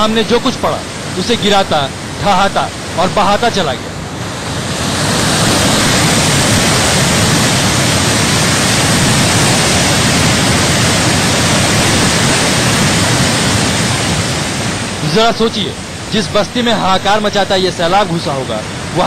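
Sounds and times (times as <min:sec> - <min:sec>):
flood water rushing: 0:00.0 - 0:19.0.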